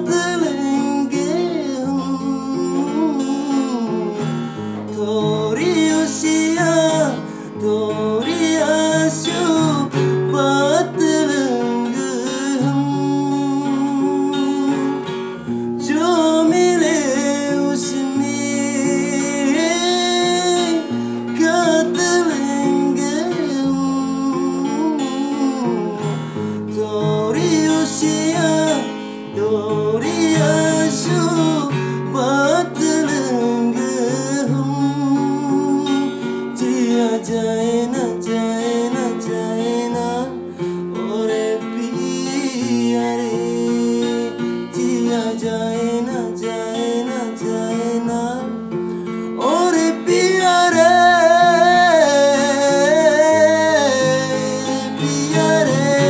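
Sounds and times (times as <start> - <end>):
man singing: 0.0 - 56.0
strummed acoustic guitar: 0.0 - 56.0.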